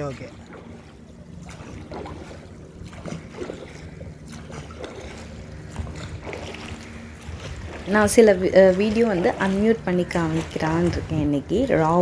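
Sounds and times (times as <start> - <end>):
boat engine humming: 0.0 - 12.0
wind on microphone: 1.4 - 12.0.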